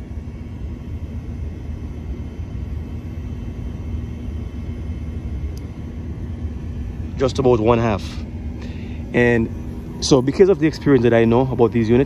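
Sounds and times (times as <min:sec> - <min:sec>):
faint steady tone: 0:00.0 - 0:12.0
heat pump compressor humming: 0:00.0 - 0:12.0.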